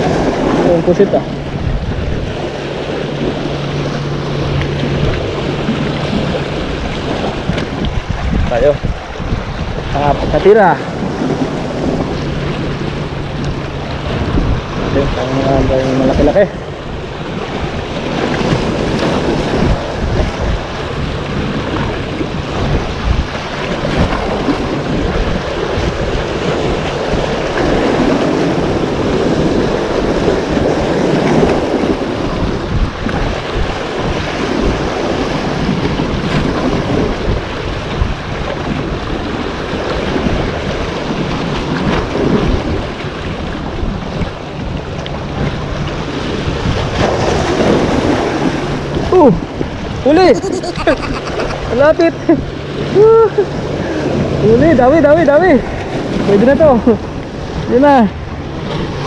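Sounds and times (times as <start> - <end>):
sea waves splashing against rocks: 0.0 - 50.3, 51.4 - 59.0
wind buffeting microphone: 0.0 - 50.5.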